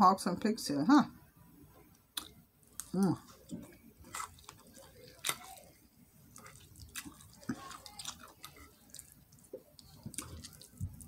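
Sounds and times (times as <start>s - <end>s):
person chewing food: 1.8s - 11.0s.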